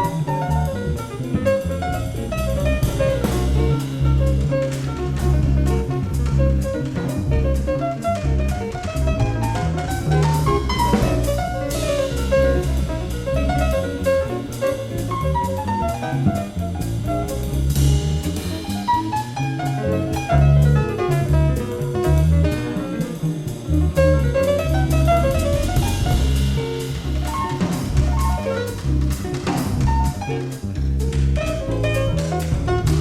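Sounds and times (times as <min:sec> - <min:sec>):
double bass: 0:00.0 - 0:33.0
drum kit: 0:00.0 - 0:33.0
melodic jazz solo: 0:00.0 - 0:33.0.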